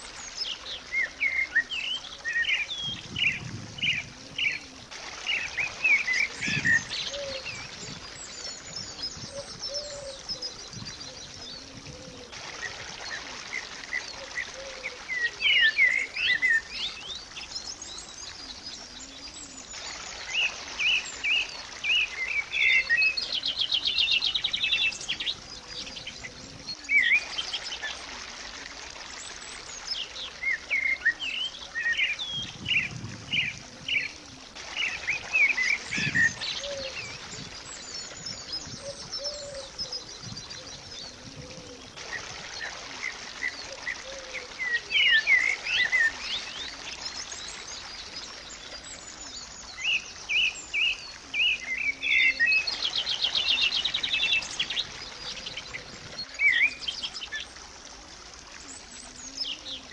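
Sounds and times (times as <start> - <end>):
small birds chirping and singing: 0.0 - 28.0, 29.1 - 57.6.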